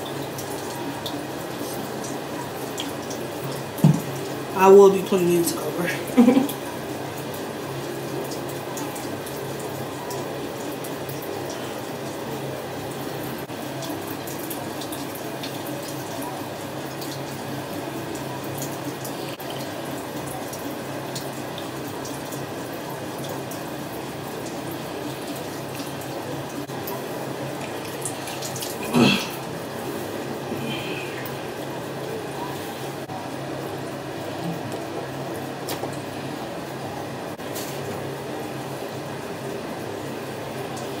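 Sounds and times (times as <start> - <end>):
water running from a tap: 0.0 - 41.0.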